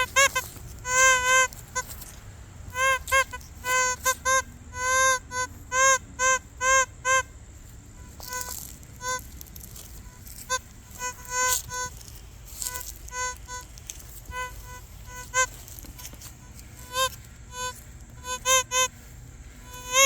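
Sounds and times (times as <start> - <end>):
metal detector beeps: 0.0 - 2.0, 2.7 - 7.3, 8.0 - 20.0.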